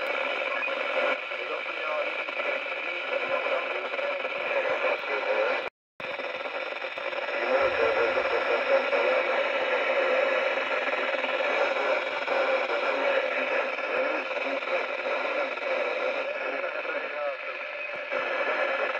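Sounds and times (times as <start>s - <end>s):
radio speaker static hiss: 0.0s - 18.9s.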